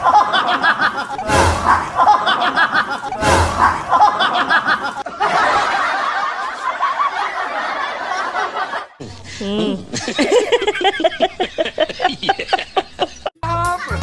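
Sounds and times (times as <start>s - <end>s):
laughter sound effect: 0.0s - 14.0s.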